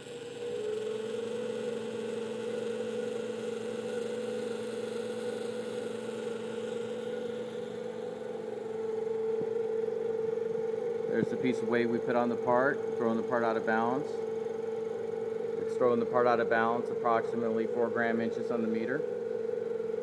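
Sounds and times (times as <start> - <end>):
balancing machine whirring: 0.0 - 20.0.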